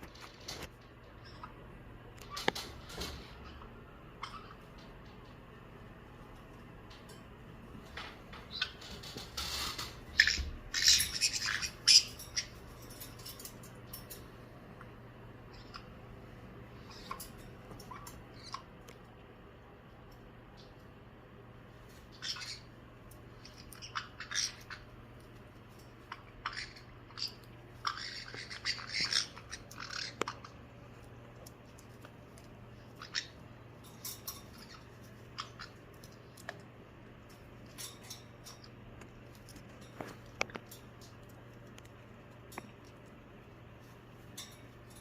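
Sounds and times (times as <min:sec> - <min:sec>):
parrots squawking and chirping: 0:00.0 - 0:05.4, 0:08.0 - 0:14.4, 0:15.4 - 0:19.0, 0:21.8 - 0:45.0.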